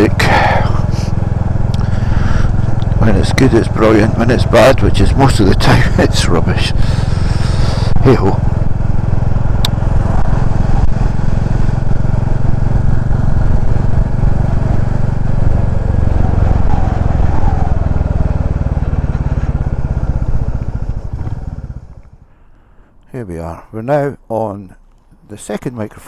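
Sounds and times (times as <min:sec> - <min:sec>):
motorcycle engine running: 0:00.0 - 0:22.7
wind and road noise: 0:00.0 - 0:23.1.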